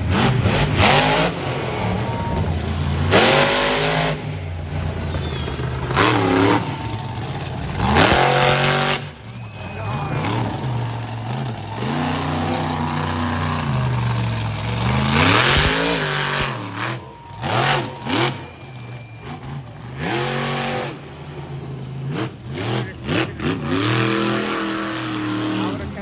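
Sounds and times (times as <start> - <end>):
truck engine revving hard: 0.0 - 26.0.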